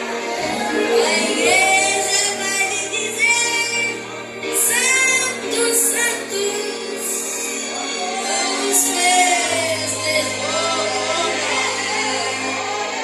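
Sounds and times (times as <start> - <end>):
backing music: 0.0 - 13.0
person singing: 0.0 - 13.0.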